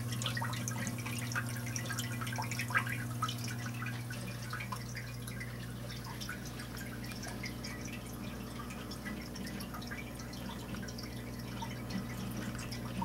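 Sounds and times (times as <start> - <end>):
aquarium water bubbling: 0.0 - 13.0
steady low hum: 0.0 - 13.0.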